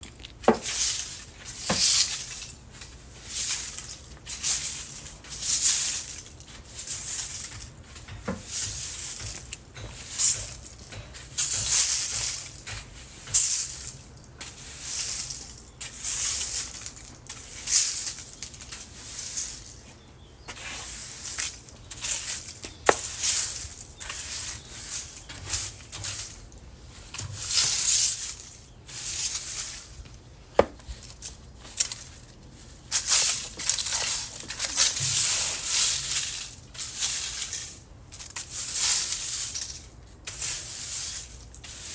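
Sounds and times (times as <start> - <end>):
broom sweeping leaves: 0.4 - 41.9.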